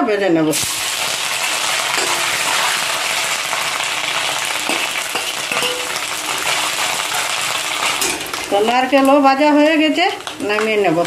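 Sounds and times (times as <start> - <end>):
coconut sizzling in hot oil: 0.5 - 11.0.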